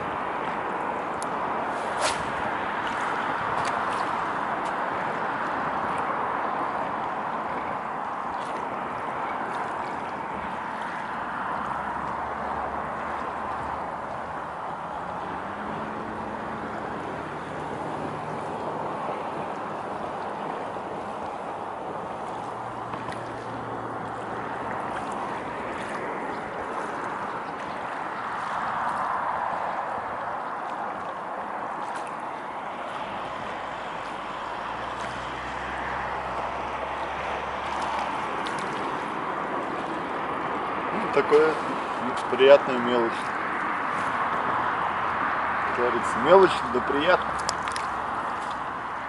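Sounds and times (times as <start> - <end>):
small waves lapping on shore: 0.0 - 49.0
wind: 0.0 - 49.0.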